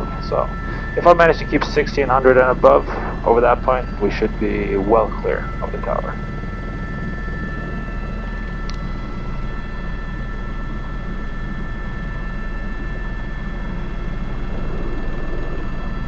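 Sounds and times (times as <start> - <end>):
helicopter rotor and turbine drone: 0.0 - 16.0.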